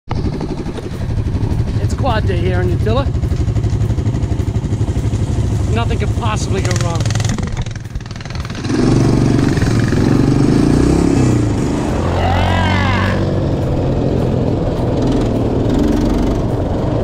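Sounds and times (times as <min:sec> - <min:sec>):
high wavering sound: 0:00.1 - 0:16.7
quad bike engine running: 0:00.1 - 0:17.0.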